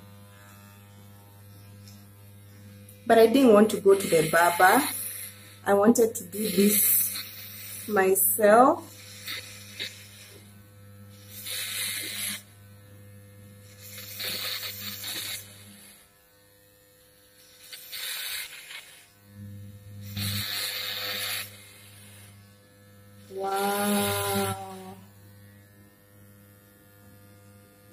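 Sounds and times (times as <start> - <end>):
clippers cutting hair: 0.0 - 27.9
electric hair clippers buzzing: 0.0 - 27.9.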